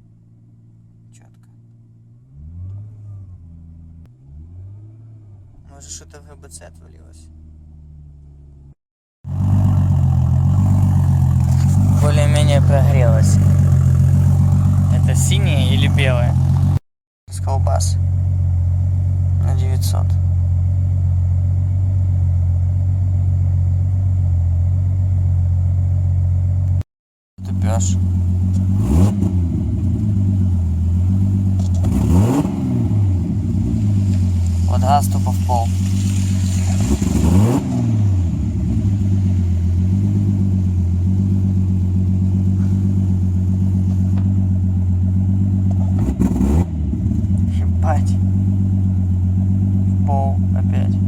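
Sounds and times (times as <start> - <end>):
car engine idling: 0.0 - 26.8, 27.4 - 51.0.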